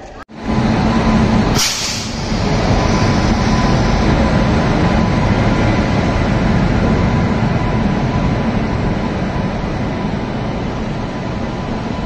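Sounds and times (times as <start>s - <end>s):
thin steady whine: 0.3s - 12.0s
train rumbling past: 0.3s - 12.0s.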